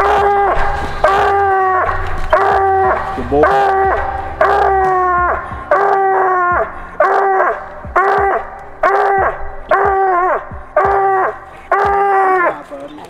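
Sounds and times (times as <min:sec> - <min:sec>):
hound barking: 0:00.0 - 0:12.8.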